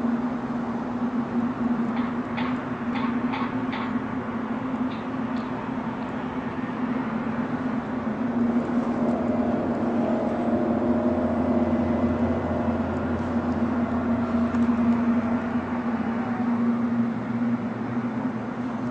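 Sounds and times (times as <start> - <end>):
deeper hum: 0.0 - 18.9
low droning hum: 0.0 - 18.9.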